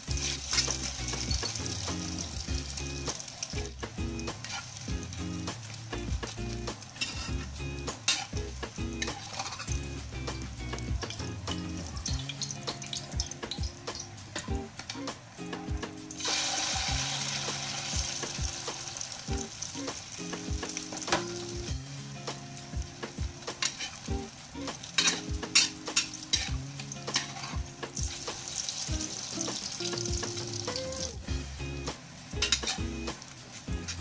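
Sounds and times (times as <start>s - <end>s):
batter sizzling in hot oil: 0.0s - 34.0s.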